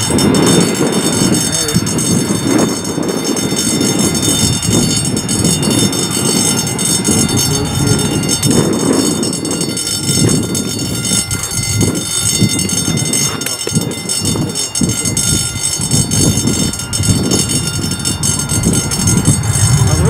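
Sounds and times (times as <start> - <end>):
high-pitched engine whine: 0.0 - 20.0
jet engines low rumble: 0.0 - 20.0.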